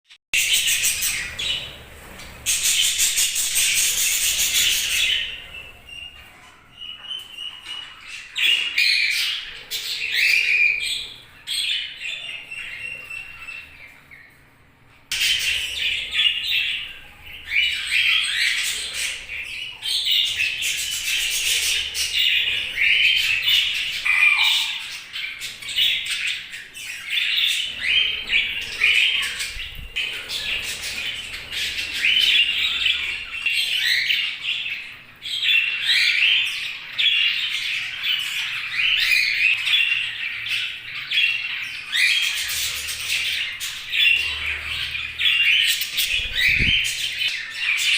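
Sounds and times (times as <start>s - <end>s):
budgerigars chirping and squawking: 0.4s - 14.4s, 15.1s - 47.9s.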